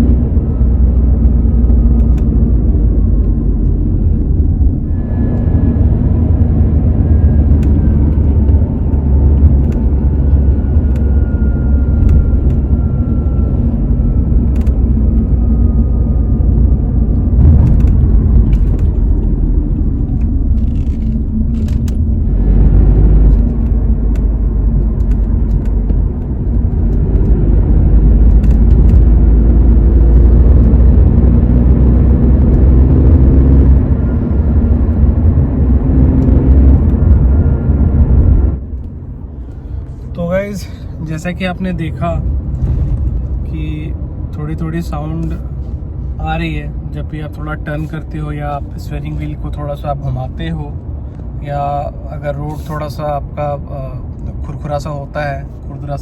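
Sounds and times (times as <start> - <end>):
road and engine rumble: 0.0 - 56.0.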